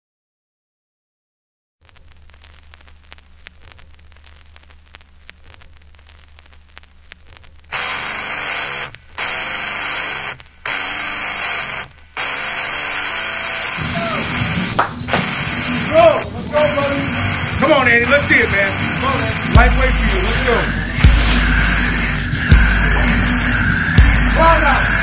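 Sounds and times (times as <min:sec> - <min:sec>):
harsh static noise bursts: 0:01.8 - 0:25.0.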